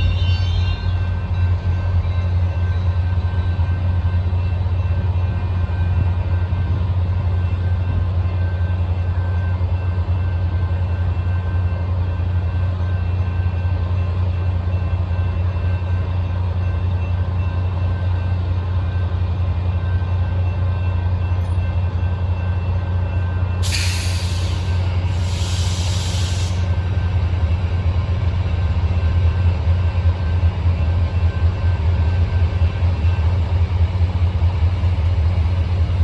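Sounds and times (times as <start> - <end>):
diesel locomotive idling: 0.2 - 36.0.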